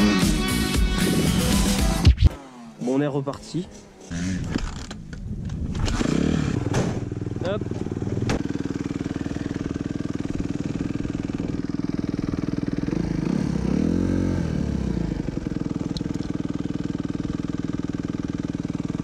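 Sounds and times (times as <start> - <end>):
motorbike engine idling: 3.5 - 19.0.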